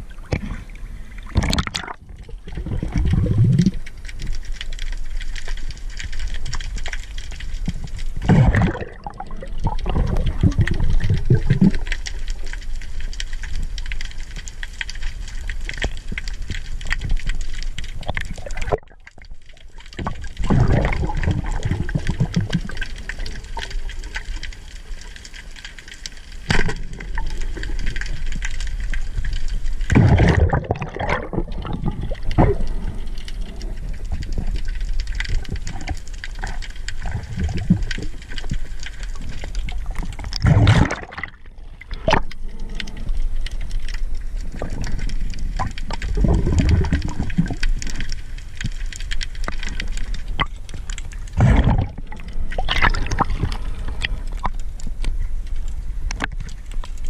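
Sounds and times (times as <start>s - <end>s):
fine underwater crackle: 0.0s - 57.0s
rushing bubbling water: 0.0s - 57.0s.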